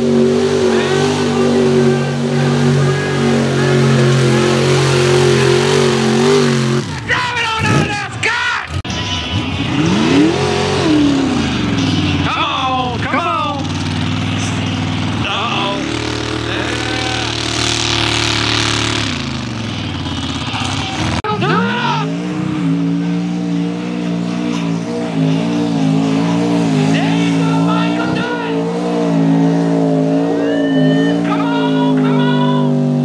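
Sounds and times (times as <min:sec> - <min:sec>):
truck engine revving high: 0:00.0 - 0:33.0
truck engine winding down: 0:00.0 - 0:33.0.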